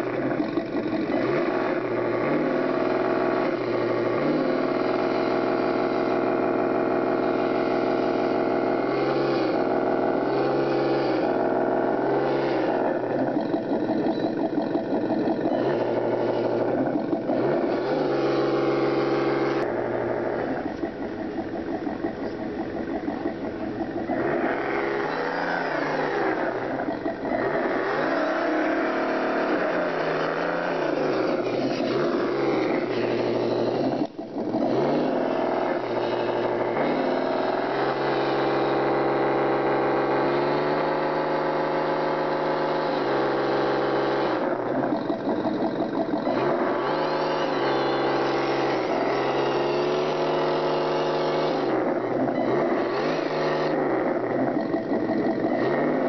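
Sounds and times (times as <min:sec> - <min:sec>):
toy truck motor whirring: 0:00.0 - 0:56.0.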